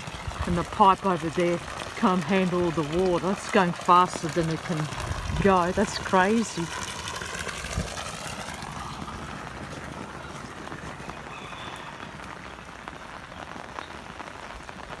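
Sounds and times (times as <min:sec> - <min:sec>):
rain falling: 0:00.0 - 0:15.0
water rushing from overflowing tank: 0:00.0 - 0:15.0.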